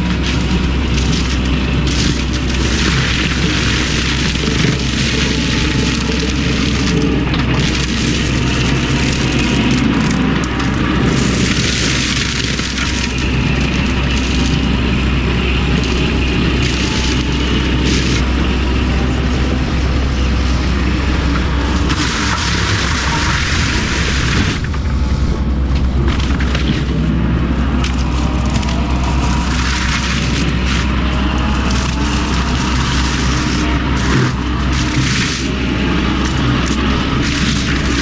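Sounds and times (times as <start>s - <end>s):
mulching head grinding brush: 0.0s - 38.0s
wood cracking and shredding: 0.0s - 38.0s.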